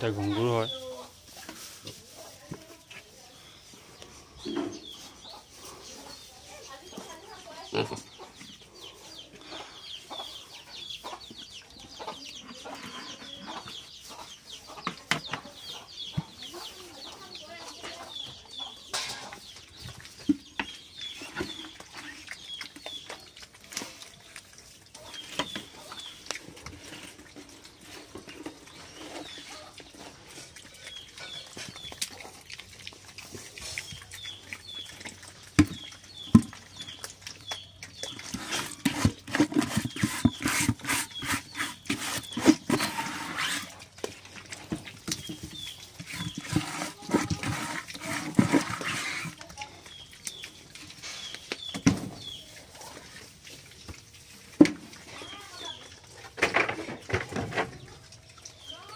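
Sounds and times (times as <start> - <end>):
pigs chewing and snuffling: 0.0 - 58.9.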